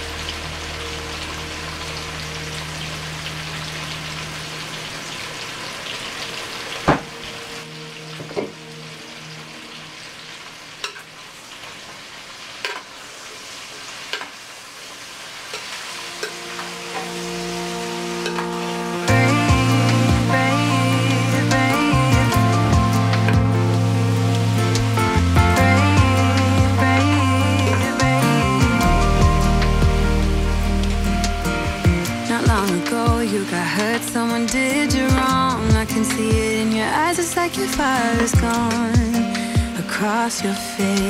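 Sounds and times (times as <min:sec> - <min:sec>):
potatoes and onions sizzling in a pan: 0:00.0 - 0:41.0.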